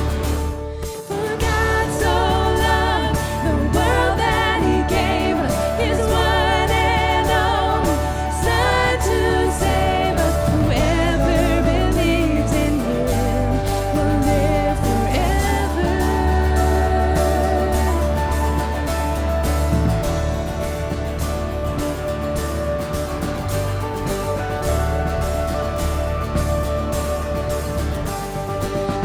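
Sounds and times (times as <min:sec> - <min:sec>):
worship band with vocals: 0:00.0 - 0:29.0.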